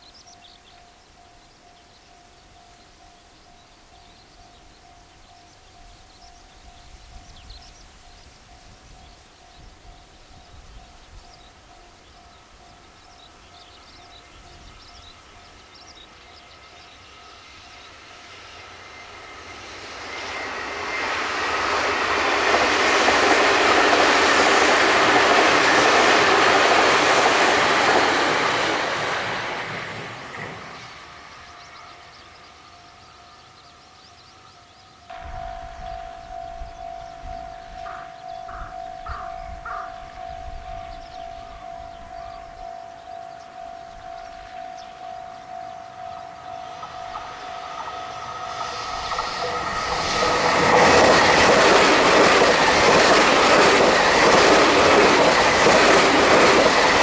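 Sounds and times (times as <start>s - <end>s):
electric train passing: 0.0s - 57.0s.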